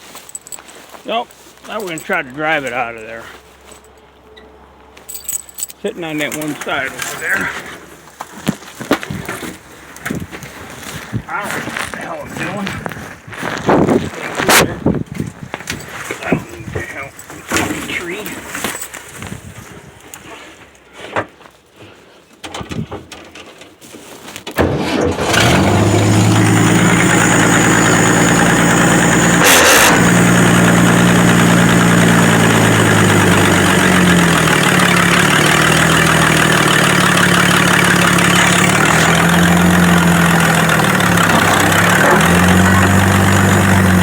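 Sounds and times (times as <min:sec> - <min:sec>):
van engine starting and running: 0:00.0 - 0:19.4, 0:24.5 - 0:44.0.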